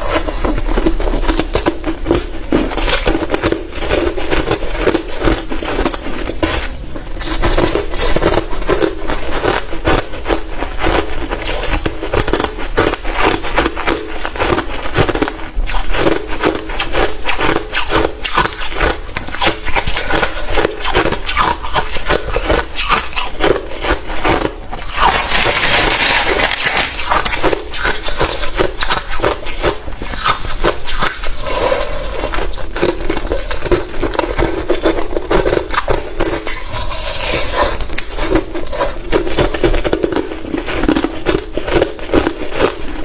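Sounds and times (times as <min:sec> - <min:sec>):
crushed ice being chewed: 0:00.0 - 0:43.0.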